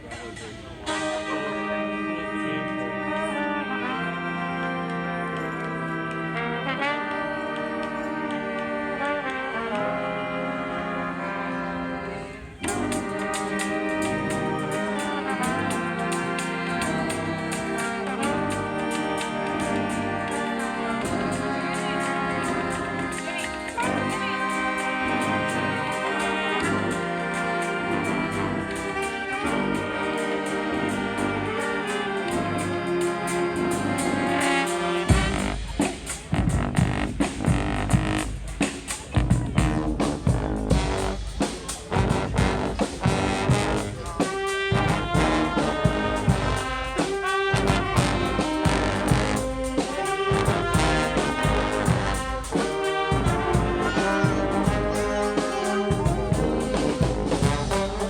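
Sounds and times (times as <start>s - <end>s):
drums and cymbals: 0.0s - 2.1s, 12.6s - 58.0s
brass band playing: 0.0s - 58.0s.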